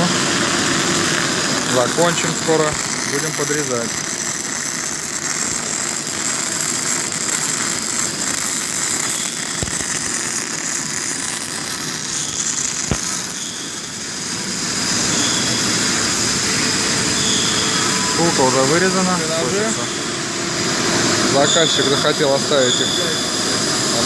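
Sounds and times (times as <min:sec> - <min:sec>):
cutting torch hissing: 0:00.0 - 0:24.0.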